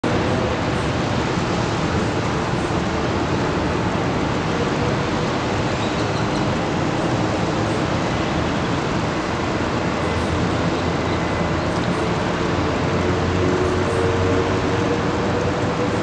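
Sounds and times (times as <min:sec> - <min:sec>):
distant traffic drone: 0:00.0 - 0:16.0.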